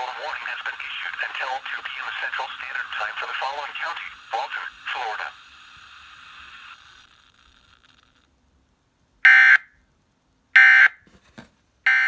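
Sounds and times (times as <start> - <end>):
faint radio hiss: 0.0 - 12.0.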